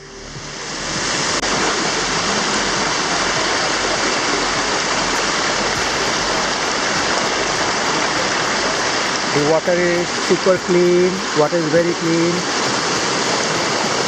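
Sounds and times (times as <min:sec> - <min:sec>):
water cascading down steps: 0:00.7 - 0:14.0.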